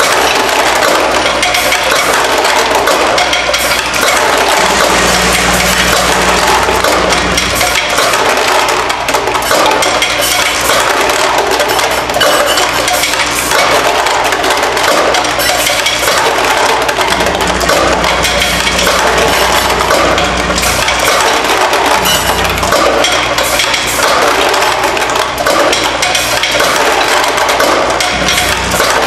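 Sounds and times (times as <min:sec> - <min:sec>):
feeder drive hum: 0:00.0 - 0:29.0
small metal parts rattling: 0:00.0 - 0:29.0.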